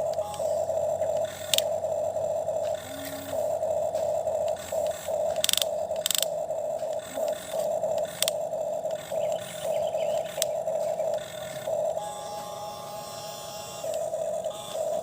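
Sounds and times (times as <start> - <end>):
sharp clicks: 0.0 - 12.0, 13.8 - 15.0
toy excavator motor whirring: 0.0 - 15.0.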